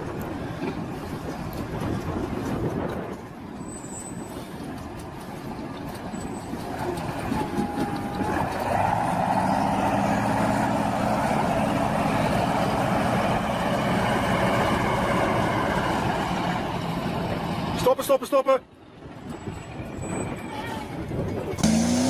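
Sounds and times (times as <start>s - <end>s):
heavy vehicle engine running: 0.0s - 17.9s, 19.0s - 22.0s.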